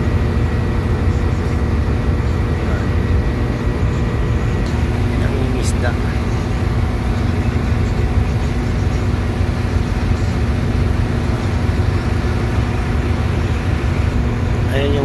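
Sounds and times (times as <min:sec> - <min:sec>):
ferry engine rumbling: 0:00.0 - 0:15.0
water rushing along hull: 0:00.0 - 0:15.0.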